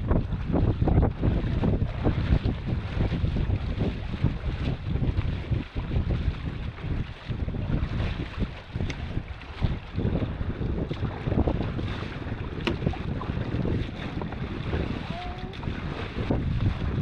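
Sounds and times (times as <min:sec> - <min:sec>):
water washing against canoe: 0:00.0 - 0:17.0
wind buffeting microphone: 0:00.0 - 0:17.0.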